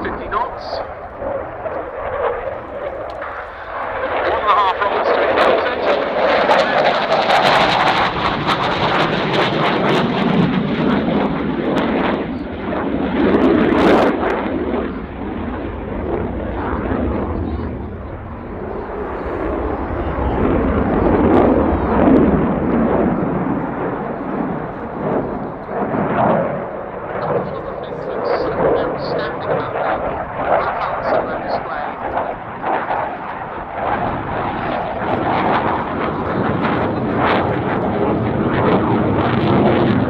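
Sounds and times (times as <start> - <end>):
fighter jet roar: 0.0 - 40.0.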